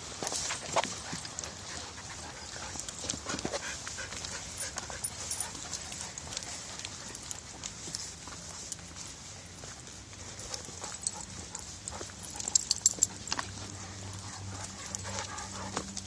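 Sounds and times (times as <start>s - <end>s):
dogs panting: 0.0s - 16.0s
paws and footsteps on trail: 0.0s - 16.0s.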